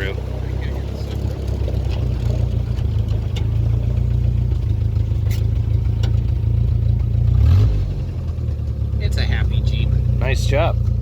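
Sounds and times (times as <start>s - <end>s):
car engine low rumble: 0.0s - 11.0s.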